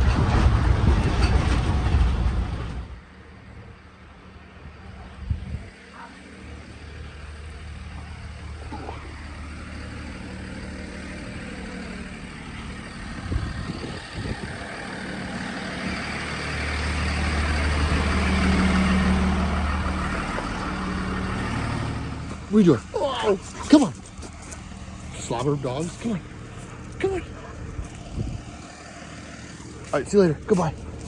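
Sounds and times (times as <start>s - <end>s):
road noise: 0.0s - 31.0s
vehicle engine hum: 0.0s - 31.0s.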